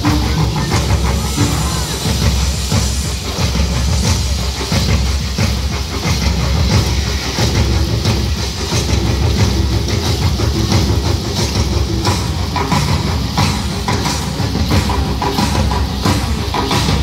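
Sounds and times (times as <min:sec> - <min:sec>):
bass-heavy music over loudspeakers: 0:00.0 - 0:17.0.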